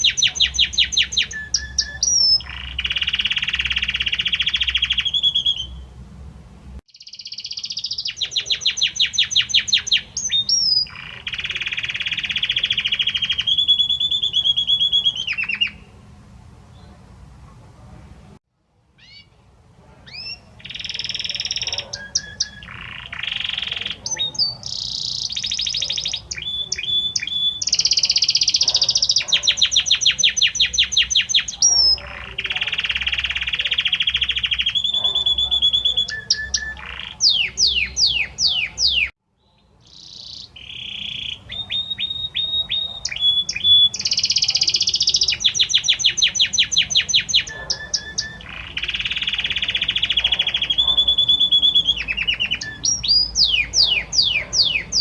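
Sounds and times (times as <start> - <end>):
canary singing trills: 0.0 - 17.1, 19.0 - 55.0.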